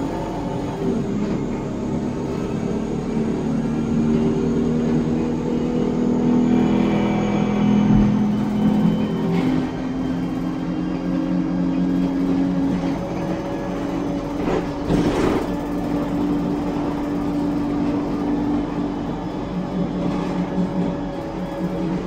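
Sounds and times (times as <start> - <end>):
bus engine and gearbox whine: 0.0 - 22.0.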